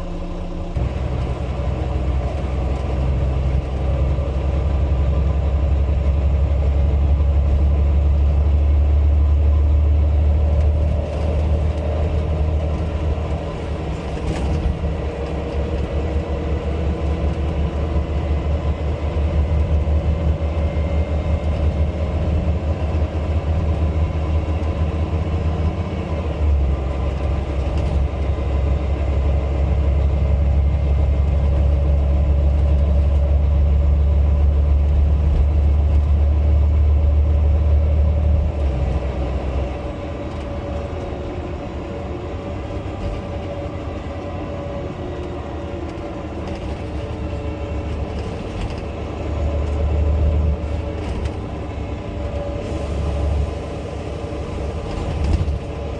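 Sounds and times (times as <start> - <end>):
bus diesel engine rumbling: 0.0 - 55.9.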